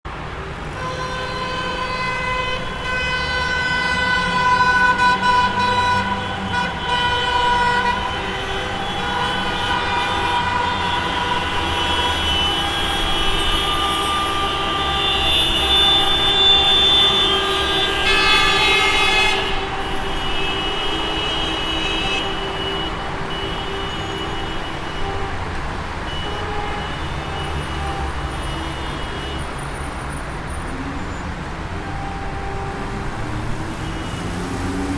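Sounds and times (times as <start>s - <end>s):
car horns honking: 0.4s - 34.9s.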